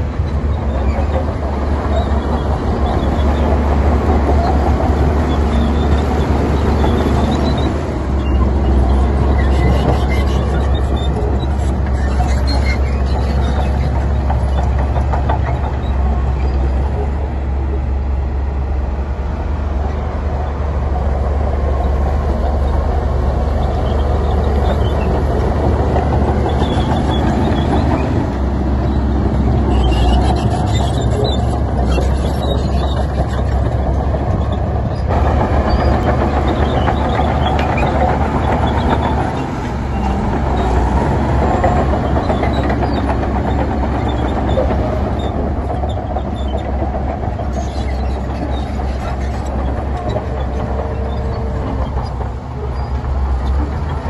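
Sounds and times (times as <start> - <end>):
heavy diesel machinery drone: 0.0 - 54.0.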